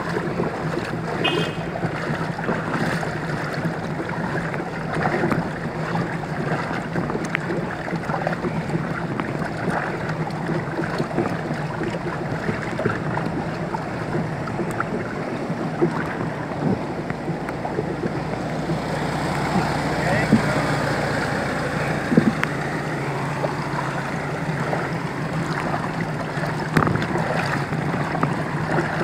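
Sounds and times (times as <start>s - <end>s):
floodwater rushing and splashing: 0.0s - 29.0s
low steady hum: 0.0s - 29.0s.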